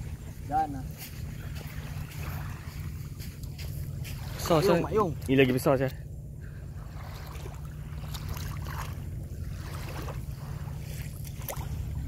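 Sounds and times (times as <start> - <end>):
sea water lapping and splashing: 0.0 - 12.0
steady low rumble: 0.0 - 12.0.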